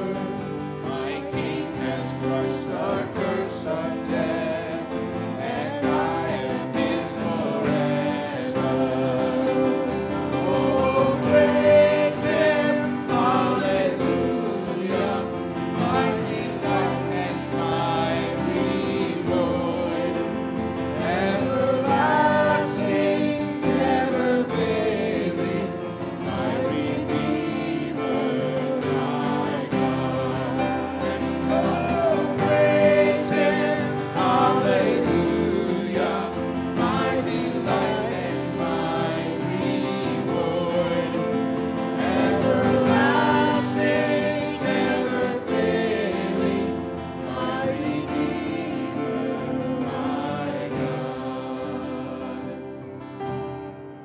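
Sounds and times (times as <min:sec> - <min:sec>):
instrumental accompaniment: 0:00.0 - 0:54.0
people singing a hymn: 0:00.0 - 0:54.0.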